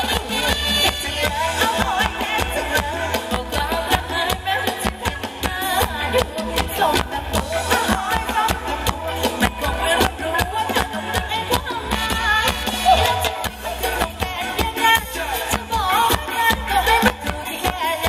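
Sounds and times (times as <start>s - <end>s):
live band playing dance music: 0.0s - 18.0s.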